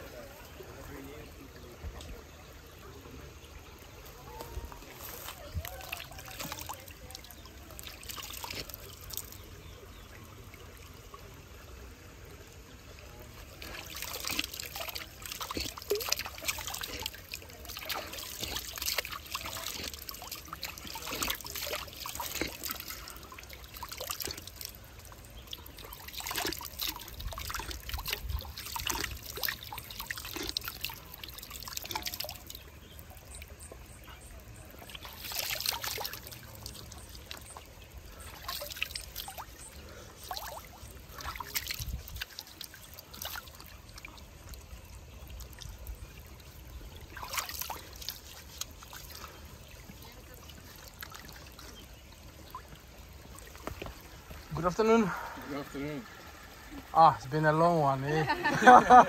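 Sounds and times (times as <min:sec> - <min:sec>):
water splashes: 0:00.0 - 0:59.0
water trickling in a stream: 0:00.0 - 0:59.0.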